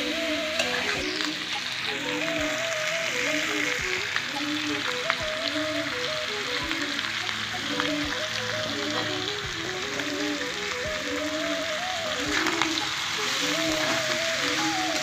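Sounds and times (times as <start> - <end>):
background music with soft beat: 0.0 - 15.0
chicken sizzling in a pan: 0.0 - 15.0.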